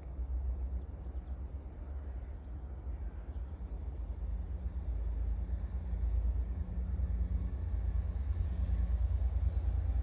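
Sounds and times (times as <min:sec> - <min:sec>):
distant locomotive rumble: 0:00.0 - 0:10.0.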